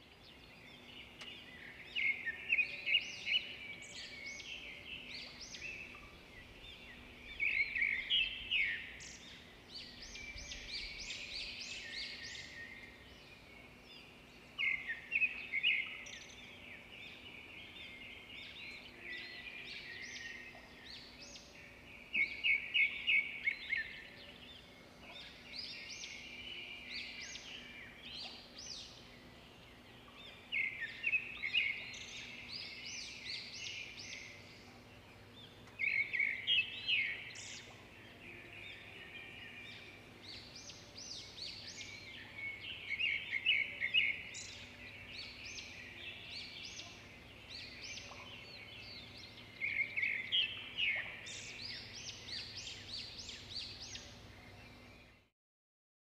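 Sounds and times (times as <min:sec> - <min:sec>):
birds chirping and trilling: 0:00.0 - 0:55.3.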